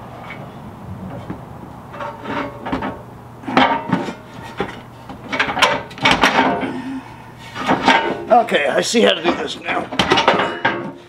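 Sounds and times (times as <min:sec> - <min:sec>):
metal clanking and scraping: 0:00.2 - 0:06.8, 0:07.4 - 0:11.0.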